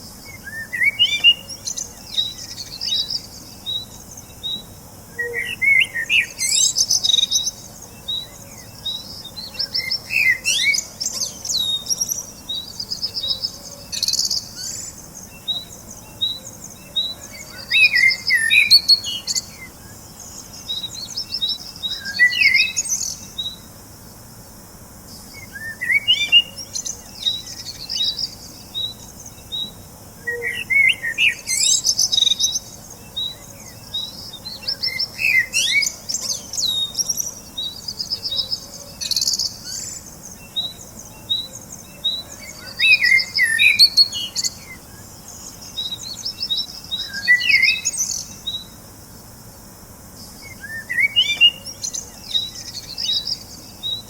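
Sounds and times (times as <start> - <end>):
songbirds chirping and warbling: 0.0 - 54.0.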